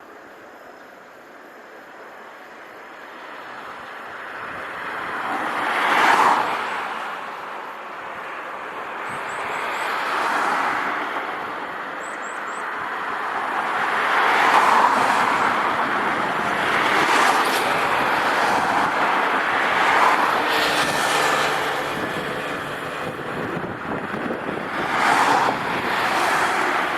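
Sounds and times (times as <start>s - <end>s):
vehicles passing by: 1.5s - 26.9s.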